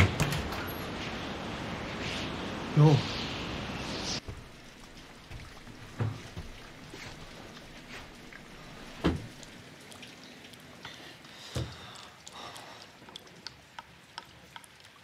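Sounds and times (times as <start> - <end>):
rain hiss: 0.5 - 14.5.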